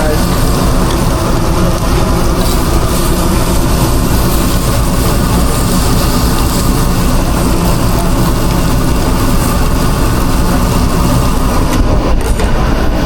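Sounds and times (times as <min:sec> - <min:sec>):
machinery droning: 0:00.0 - 0:13.0.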